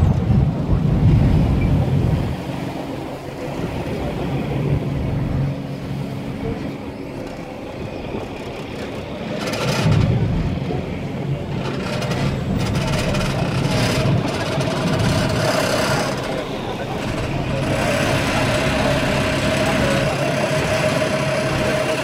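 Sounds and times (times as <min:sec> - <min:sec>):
boat engine humming: 0:00.0 - 0:22.0
noisy rush: 0:00.0 - 0:22.0.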